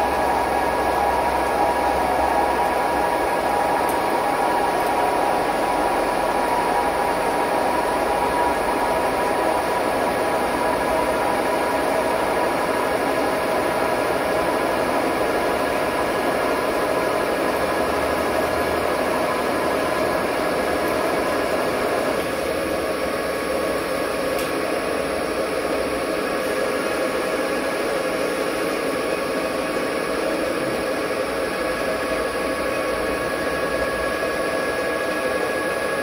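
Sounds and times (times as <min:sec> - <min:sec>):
metal lathe whining: 0:00.0 - 0:36.0.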